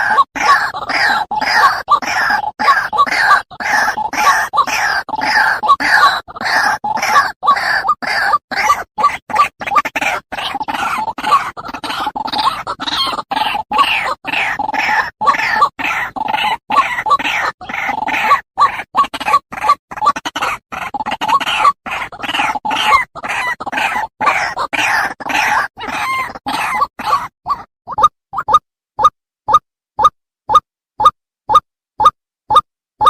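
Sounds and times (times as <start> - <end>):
waterhen croaking calls: 0.0 - 29.6.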